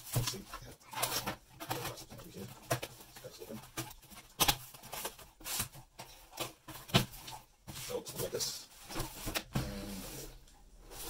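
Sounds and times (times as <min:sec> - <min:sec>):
cardboard scraping and rustling: 0:00.0 - 0:11.0.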